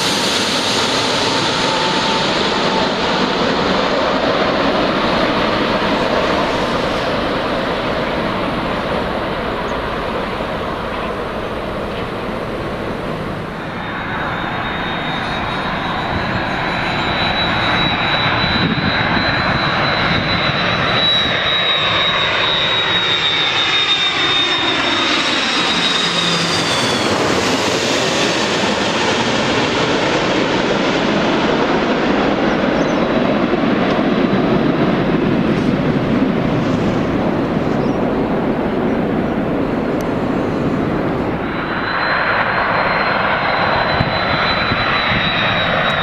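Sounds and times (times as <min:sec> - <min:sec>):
jet airliner passing: 0:00.0 - 0:46.0.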